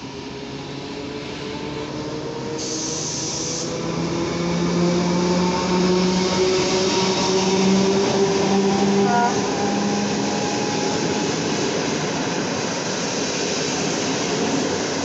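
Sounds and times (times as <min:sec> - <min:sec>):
locomotive engine drone: 0:00.2 - 0:12.9.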